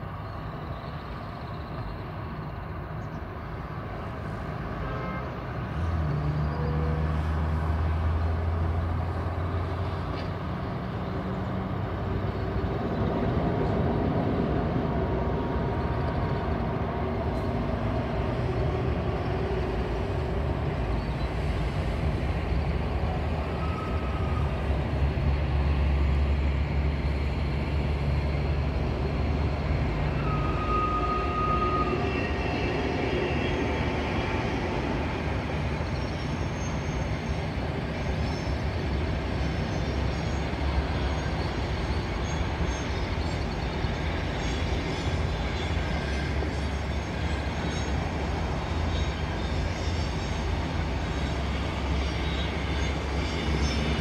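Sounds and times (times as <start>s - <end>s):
distant train wheels rumbling: 0.0s - 54.0s.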